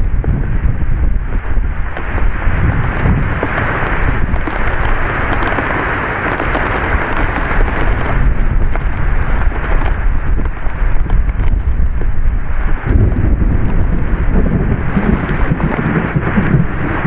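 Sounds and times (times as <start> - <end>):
heavy rain: 0.0 - 17.0
wind rumbling on microphone: 0.0 - 17.0.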